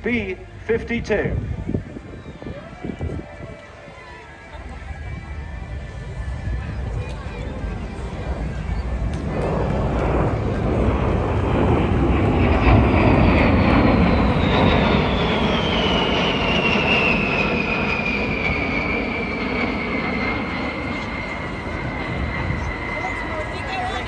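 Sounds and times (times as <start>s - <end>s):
high jet whine falling in pitch: 0.0s - 24.0s
jet aircraft rumble: 0.0s - 24.0s.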